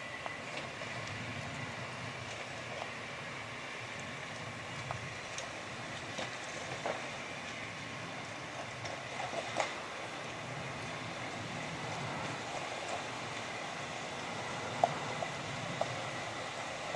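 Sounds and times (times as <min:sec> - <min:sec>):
vehicle engine low noise: 0:00.0 - 0:16.9.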